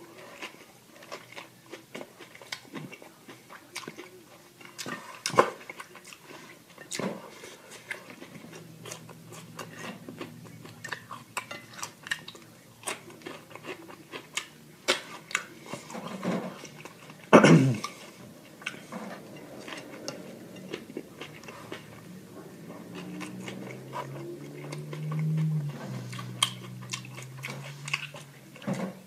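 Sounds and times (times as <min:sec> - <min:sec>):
chewing food: 0:00.0 - 0:29.0.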